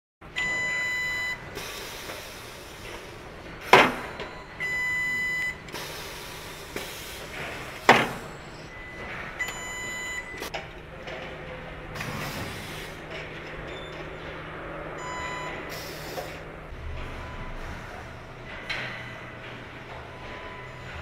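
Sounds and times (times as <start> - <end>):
machinery background: 0.2 - 21.0.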